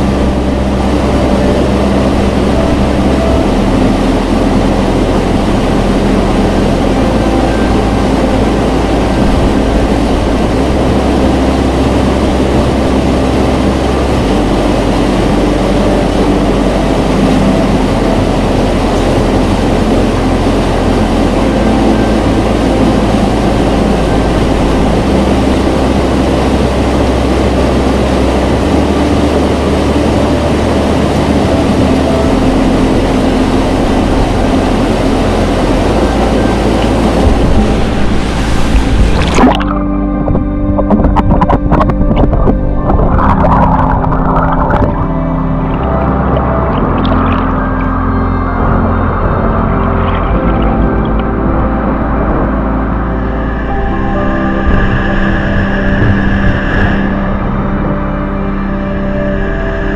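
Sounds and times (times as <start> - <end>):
waterfall roaring: 0.0 - 54.8.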